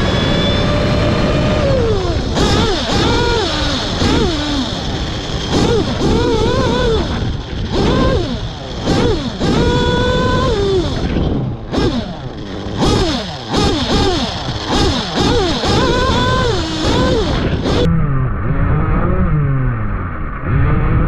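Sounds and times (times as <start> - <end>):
small two-stroke engine revving: 0.0 - 21.0.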